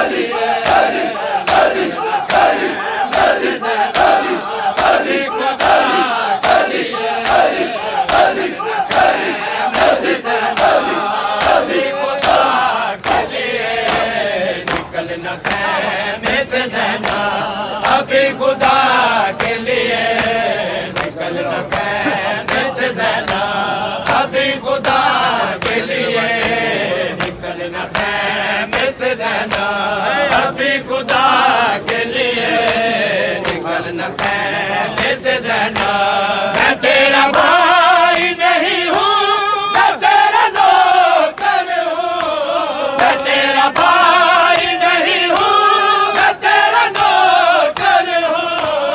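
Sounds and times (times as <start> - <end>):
men chanting in unison: 0.0 - 48.9.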